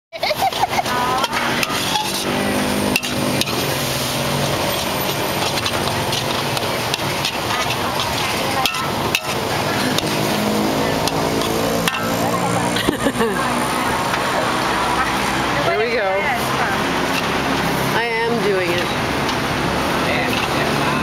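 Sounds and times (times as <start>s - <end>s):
traffic: 0.1s - 21.0s
utensils clanking on a pan: 0.2s - 21.0s
voices: 0.2s - 21.0s
food sizzling in a pan: 0.3s - 21.0s.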